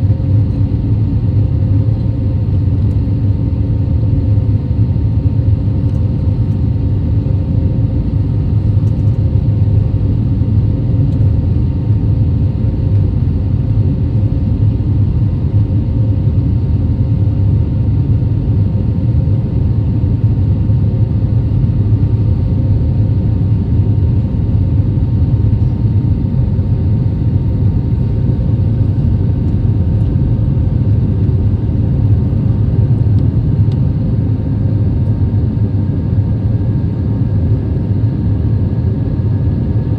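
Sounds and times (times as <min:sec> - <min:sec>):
engine and airflow rumble: 0:00.0 - 0:39.9.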